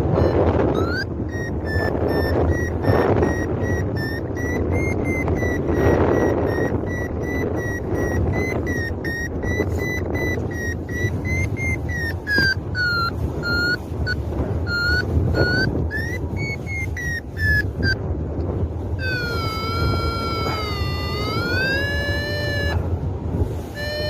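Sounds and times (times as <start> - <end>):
variometer beeping in short pulses: 0.0 - 18.0, 19.0 - 22.9, 23.6 - 24.0
wind buffeting microphone: 0.0 - 24.0.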